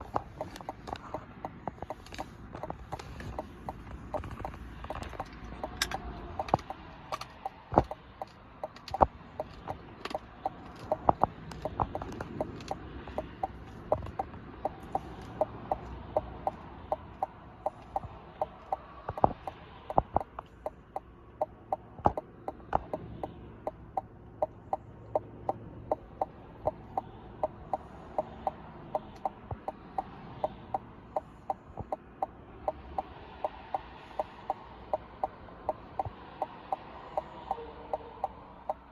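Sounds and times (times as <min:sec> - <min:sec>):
sharp ticking: 0:00.0 - 0:38.9.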